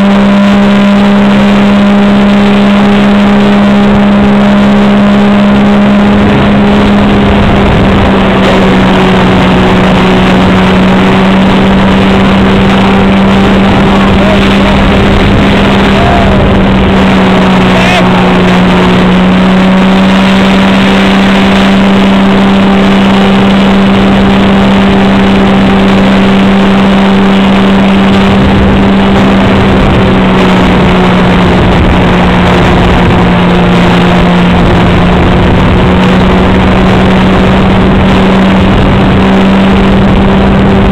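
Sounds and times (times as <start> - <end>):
trike engine and propeller: 0.0 - 40.9.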